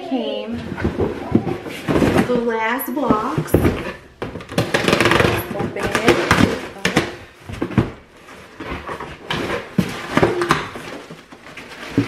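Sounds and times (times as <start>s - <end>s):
cardboard box being unpacked: 0.6s - 12.0s.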